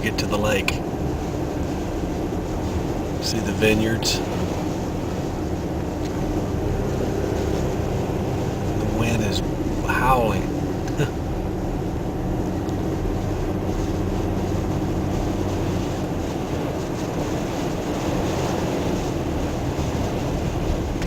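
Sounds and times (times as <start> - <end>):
truck engine and tyres droning: 0.0 - 21.0.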